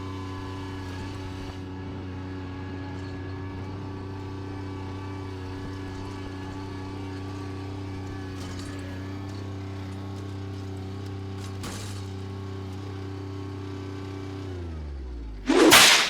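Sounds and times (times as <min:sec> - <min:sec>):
tractor engine running steadily: 0:00.0 - 0:15.4.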